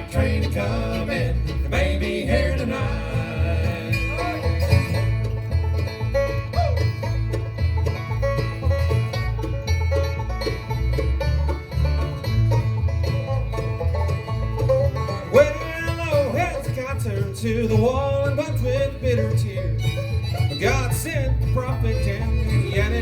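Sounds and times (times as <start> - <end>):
banjo: 0.0 - 23.0
bluegrass band playing: 0.0 - 23.0.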